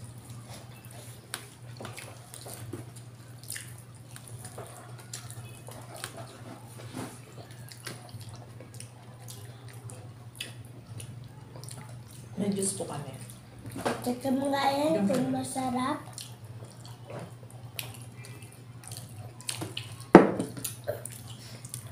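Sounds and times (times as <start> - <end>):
wet chewing and lip-smacking: 0.2 - 13.8, 16.0 - 21.9.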